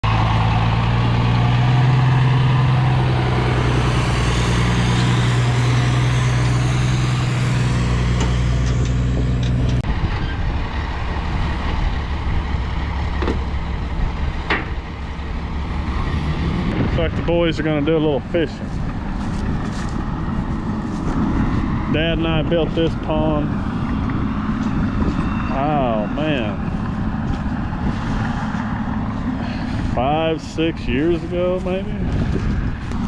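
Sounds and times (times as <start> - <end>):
diesel engine running: 0.0 - 33.0
low rumble: 0.0 - 33.0.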